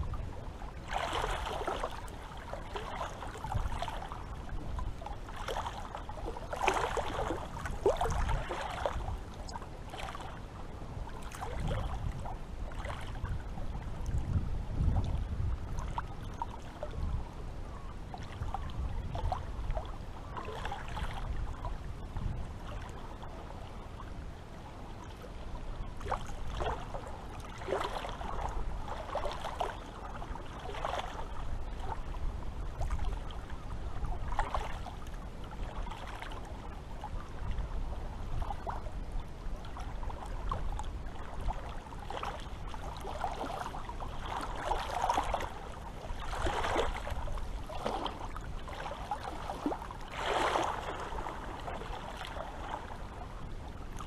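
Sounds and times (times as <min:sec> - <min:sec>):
seawater lapping and splashing: 0:00.0 - 0:54.0.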